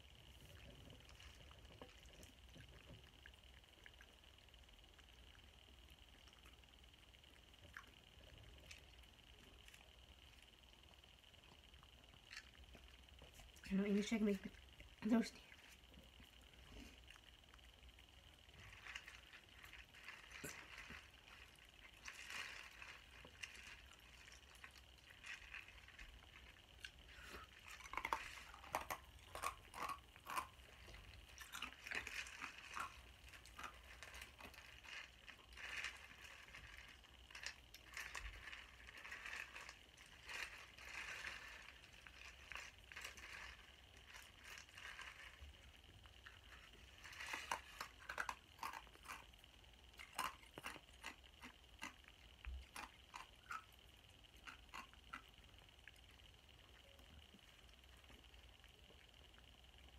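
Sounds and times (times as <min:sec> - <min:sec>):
quiet eating sounds: 0:00.0 - 0:59.9.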